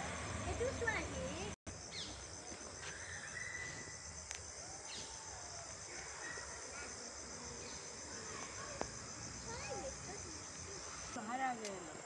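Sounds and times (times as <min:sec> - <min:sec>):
high-pitched insect trill: 0:00.6 - 0:12.0.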